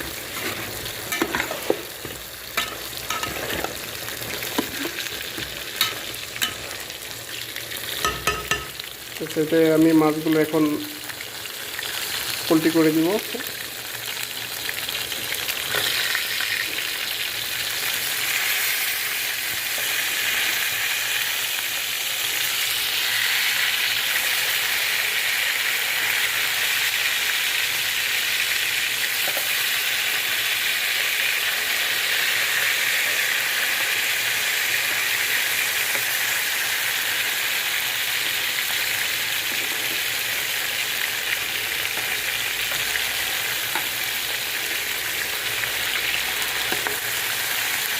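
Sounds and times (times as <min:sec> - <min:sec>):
fish frying in hot oil: 0:00.0 - 0:47.9.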